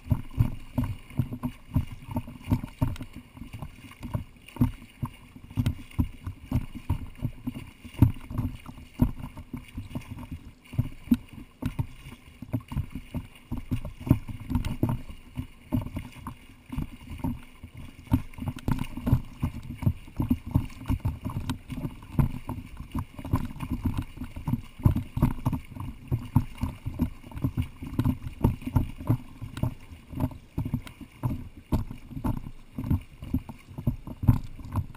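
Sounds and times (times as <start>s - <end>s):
swimmer splashing: 0.0s - 34.9s
water slapping against camera: 0.0s - 34.9s.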